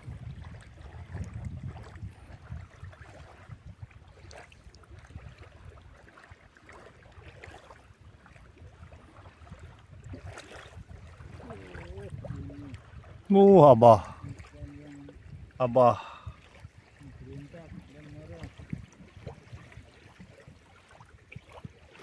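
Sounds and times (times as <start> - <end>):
gentle water sounds: 0.0 - 22.0
wind rumble on microphone: 0.0 - 22.0.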